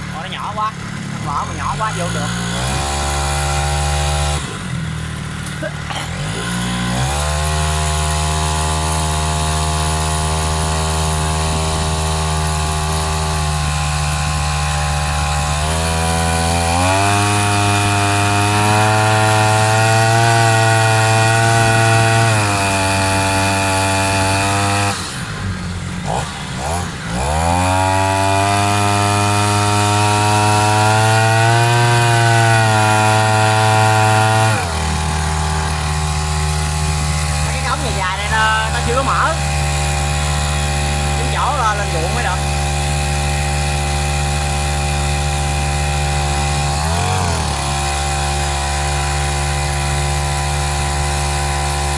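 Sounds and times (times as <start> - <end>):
two-stroke boat engine revving: 0.0 - 51.9.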